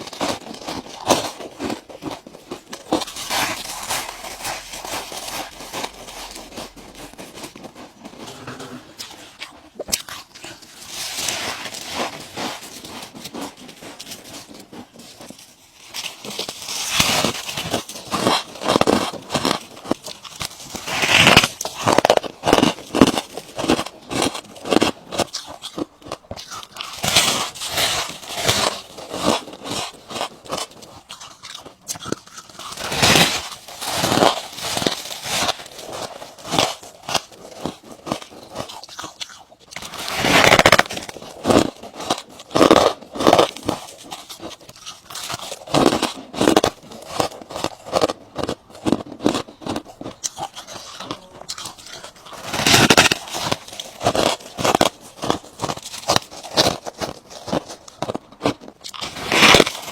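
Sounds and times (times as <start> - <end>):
ice being bitten and crunched: 0.0 - 59.9.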